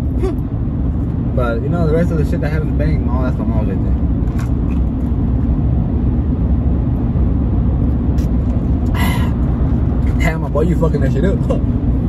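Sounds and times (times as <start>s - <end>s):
vehicle cabin road and engine rumble: 0.0s - 12.0s.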